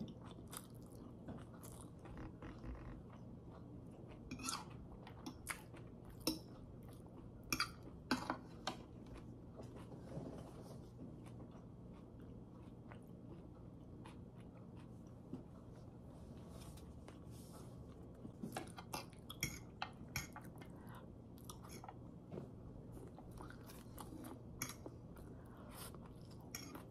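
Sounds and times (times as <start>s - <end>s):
person chewing noodles: 0.0s - 8.1s, 10.9s - 16.1s, 16.9s - 22.1s, 22.7s - 26.9s.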